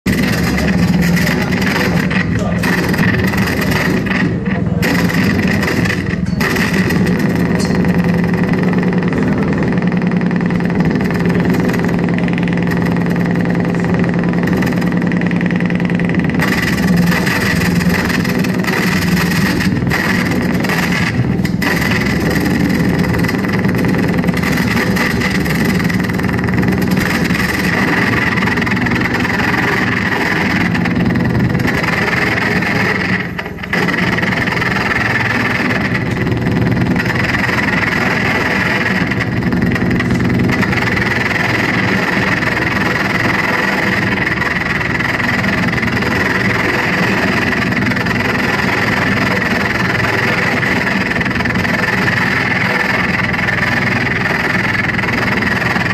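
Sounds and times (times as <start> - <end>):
harsh electronic noise: 0.0 - 55.9.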